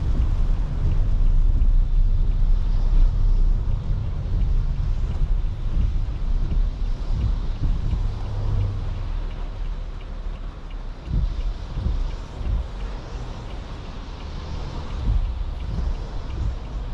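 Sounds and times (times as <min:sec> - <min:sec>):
hiss of rain and wet tyres: 0:00.0 - 0:16.9
low road rumble: 0:00.0 - 0:16.9.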